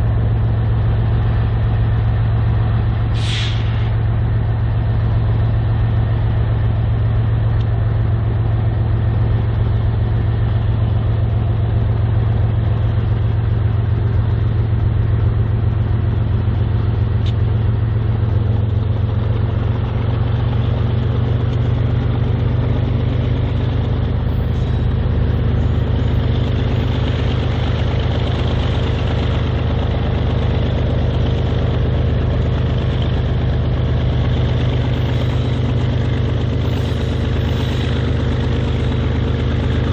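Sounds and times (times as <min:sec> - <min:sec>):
diesel locomotive engines droning: 0:00.0 - 0:39.9.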